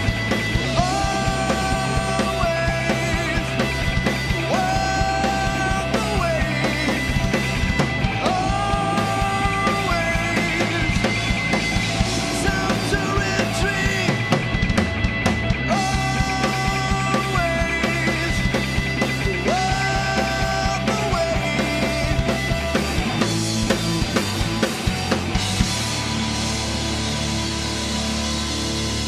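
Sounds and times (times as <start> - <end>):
rock band playing: 0.0 - 29.0.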